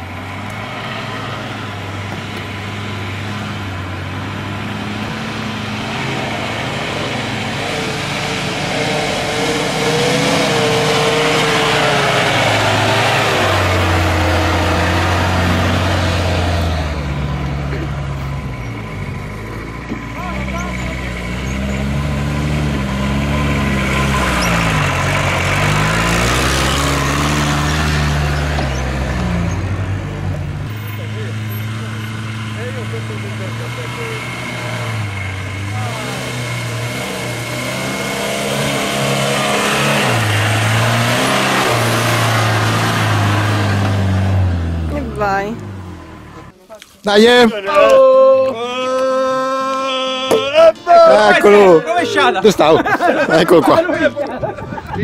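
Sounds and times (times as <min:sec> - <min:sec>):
off-road engine under load: 0:00.0 - 0:55.0.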